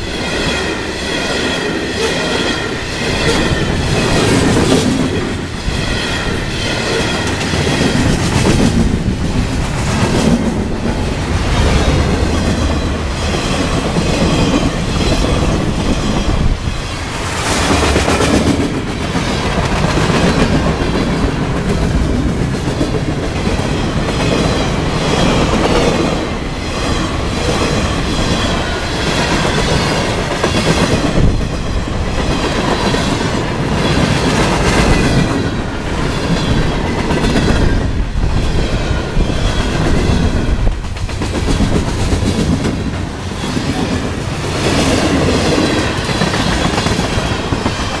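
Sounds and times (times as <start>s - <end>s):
freight train rumble: 0.0s - 48.0s
train wheels clacking on rails: 0.0s - 48.0s.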